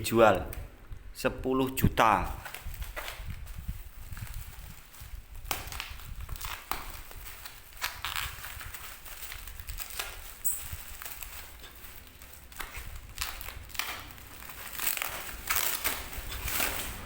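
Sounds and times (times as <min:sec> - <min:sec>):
packaging crinkling and crackling: 0:02.2 - 0:17.0.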